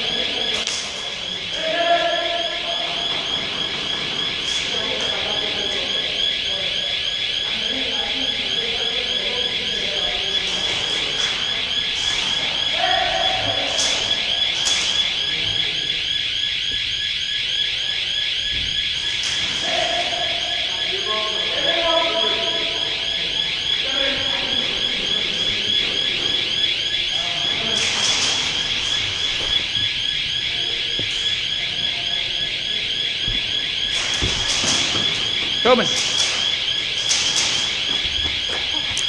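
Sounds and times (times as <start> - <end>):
electronic alarm pulsing: 0.0 - 39.0.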